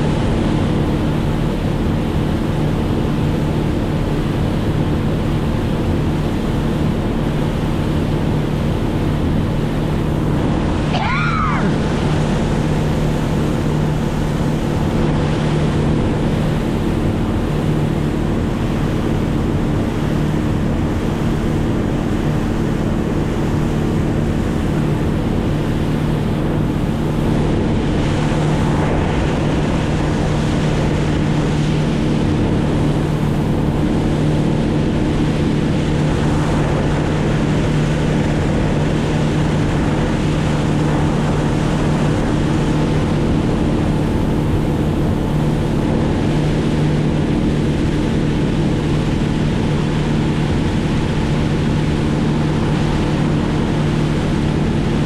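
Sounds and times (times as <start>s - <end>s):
motorboat engine droning: 0.0s - 55.0s
wind and water rushing: 0.0s - 55.0s.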